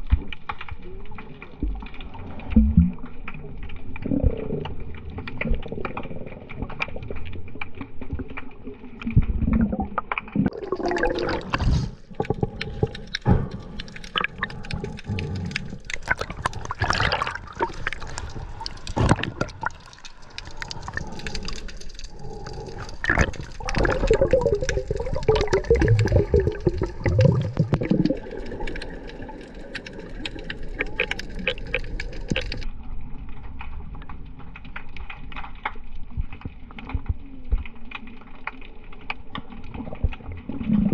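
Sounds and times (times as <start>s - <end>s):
sea water sloshing and gurgling: 0.0s - 40.9s.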